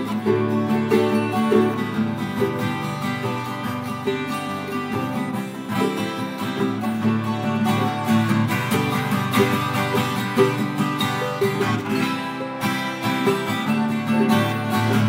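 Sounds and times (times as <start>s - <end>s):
acoustic guitar strumming chords: 0.0s - 15.0s
ukulele strumming: 0.0s - 15.0s.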